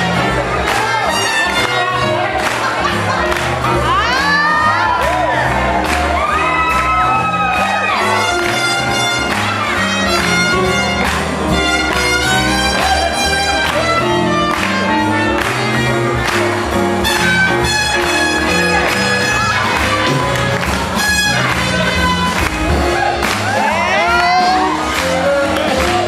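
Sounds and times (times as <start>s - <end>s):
swing jazz music: 0.0s - 26.0s.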